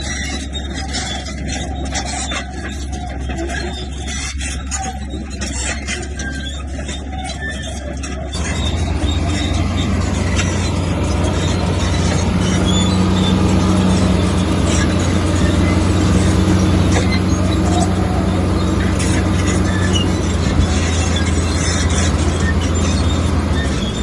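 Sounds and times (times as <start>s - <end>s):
heavy diesel machinery droning: 0.0s - 24.0s.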